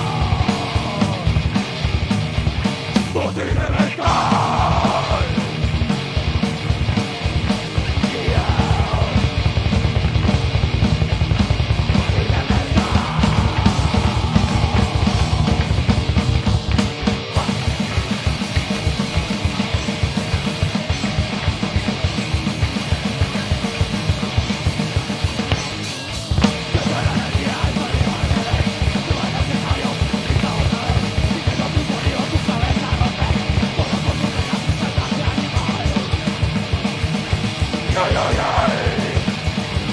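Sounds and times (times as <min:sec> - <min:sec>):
fast bass drum beat: 0:00.0 - 0:39.9
heavy metal band playing live: 0:00.0 - 0:39.9.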